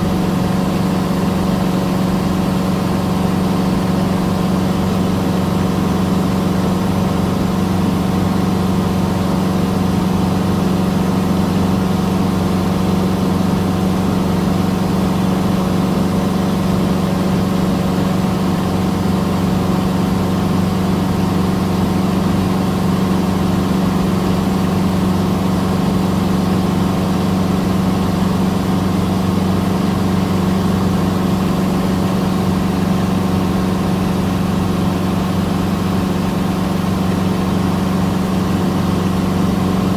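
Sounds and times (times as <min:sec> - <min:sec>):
airplane engine droning in cockpit: 0:00.0 - 0:39.9.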